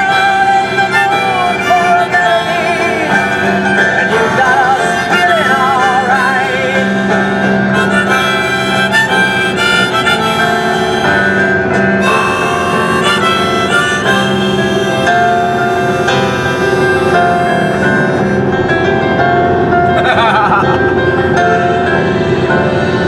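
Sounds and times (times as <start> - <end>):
sustained accompaniment: 0.0 - 23.0
vibrato lead melody: 0.0 - 23.0.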